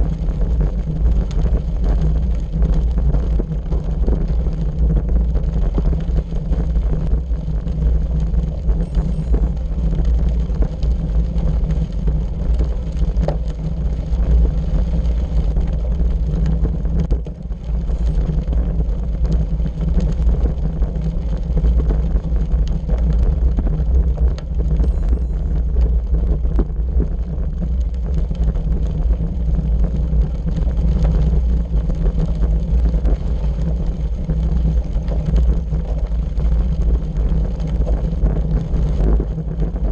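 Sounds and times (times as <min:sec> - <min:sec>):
bicycle tyres on gravel: 0:00.0 - 0:39.9
wind buffeting microphone: 0:00.0 - 0:39.9.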